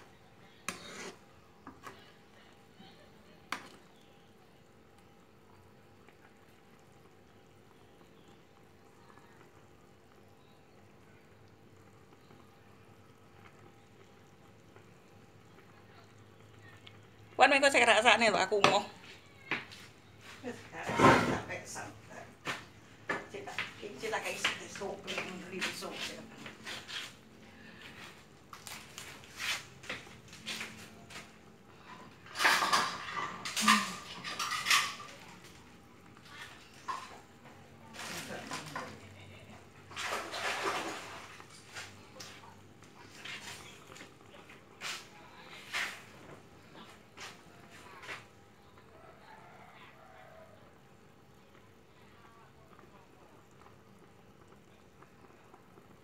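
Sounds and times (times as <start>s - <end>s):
food simmering in a wok: 0.0s - 56.0s.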